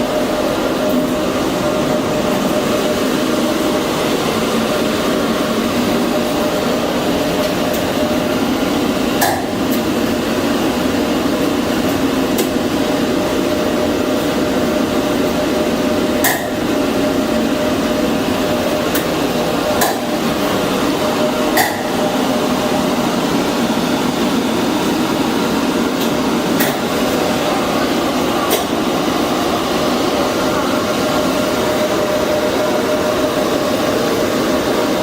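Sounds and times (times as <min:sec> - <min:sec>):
mechanical hum with held tone: 0:00.0 - 0:35.0.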